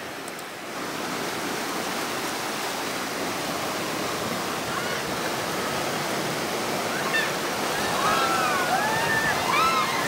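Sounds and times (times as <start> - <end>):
river rapids rushing over rocks: 0.0 - 10.0.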